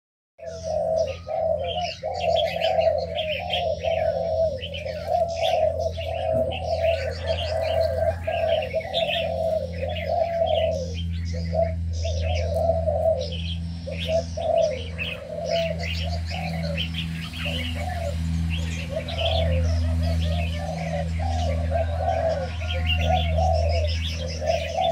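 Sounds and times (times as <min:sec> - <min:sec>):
doves cooing: 0:00.4 - 0:24.9
small birds chirping: 0:00.4 - 0:24.9
steady low hum: 0:00.4 - 0:24.9.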